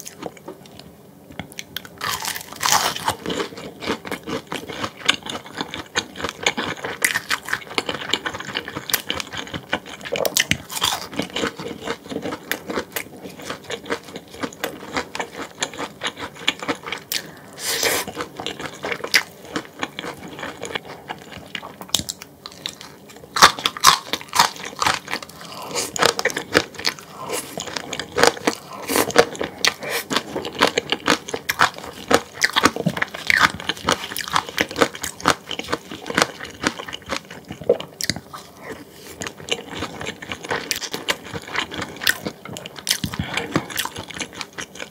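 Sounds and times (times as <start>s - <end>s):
person biting and chewing food: 1.8s - 44.9s.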